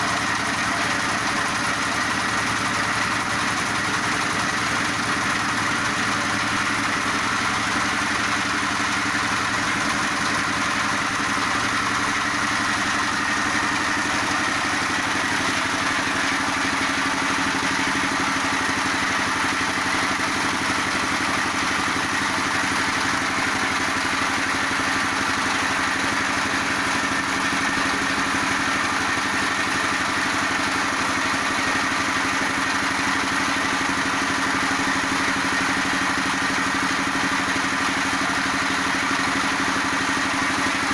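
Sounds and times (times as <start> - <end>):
feed pellet machine grinding: 0.0 - 40.9.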